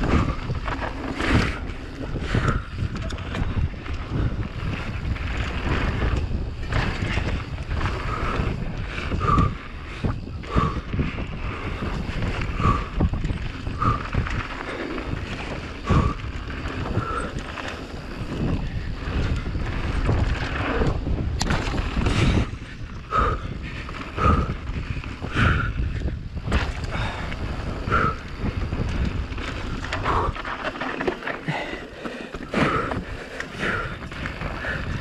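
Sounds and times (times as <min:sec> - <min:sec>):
bike knocking and rattling: 0:00.0 - 0:35.0
bike tyres rumbling: 0:00.0 - 0:35.0
wind buffeting microphone: 0:00.0 - 0:35.0.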